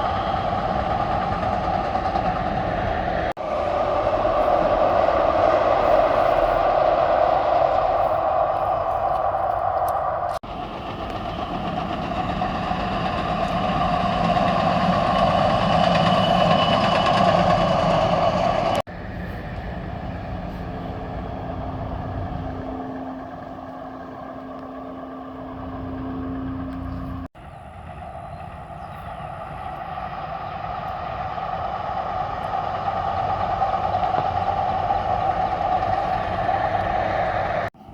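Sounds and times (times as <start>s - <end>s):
train wheels on rails: 0.0s - 37.9s.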